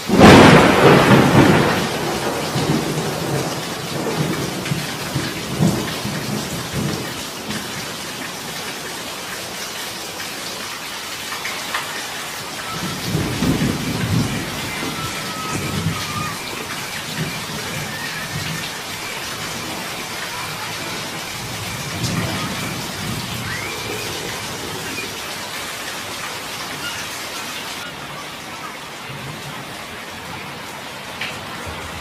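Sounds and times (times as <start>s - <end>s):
heavy rain on concrete: 0.0s - 32.0s.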